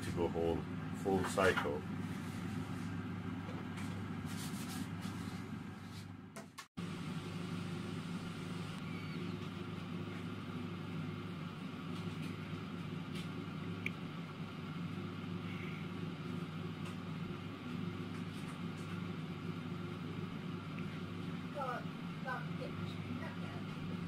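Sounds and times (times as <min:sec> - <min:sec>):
air fryer fan humming: 0:00.0 - 0:24.0.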